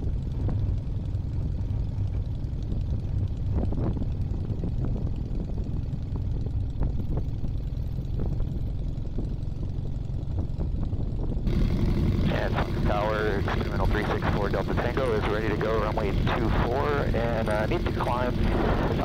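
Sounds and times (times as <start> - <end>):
ultralight plane engine and propeller: 0.0 - 19.0.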